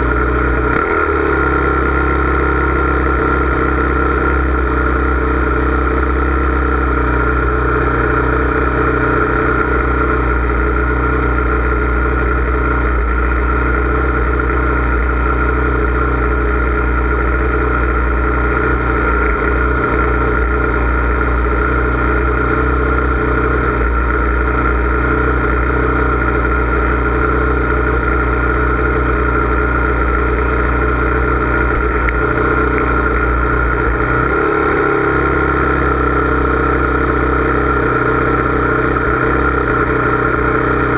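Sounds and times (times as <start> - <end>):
engine droning steadily: 0.0 - 40.9.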